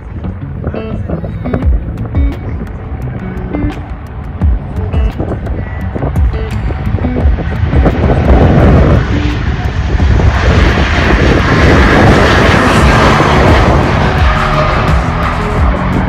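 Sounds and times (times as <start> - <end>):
airplane passing overhead: 0.0 - 16.0.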